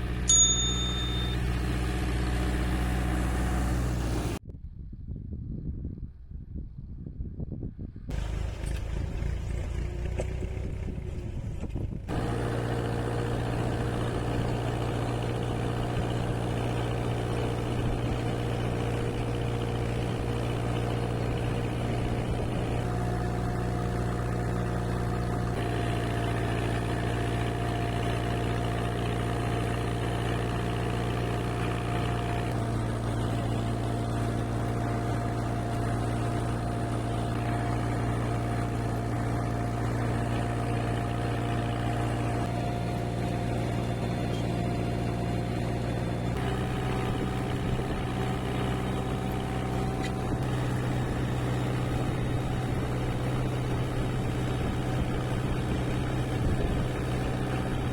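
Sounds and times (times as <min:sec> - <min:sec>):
tractor engine running: 0:00.0 - 0:04.4, 0:08.1 - 0:57.9.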